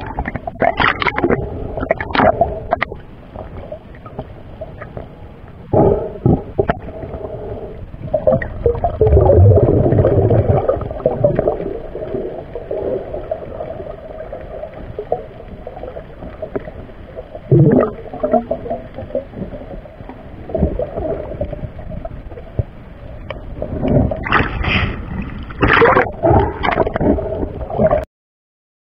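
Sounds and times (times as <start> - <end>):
bubbles gurgling underwater: 0.0 - 5.1, 8.0 - 28.0.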